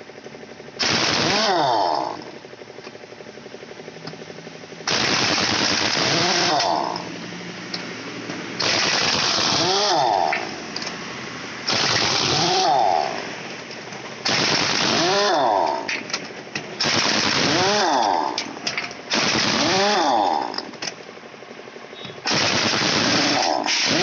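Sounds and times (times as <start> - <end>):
impact wrench whirring wind-down: 0.7 - 4.2, 4.8 - 21.0, 22.2 - 24.0
pneumatic impact wrench rattling: 0.8 - 3.0, 4.8 - 21.1, 21.9 - 24.0.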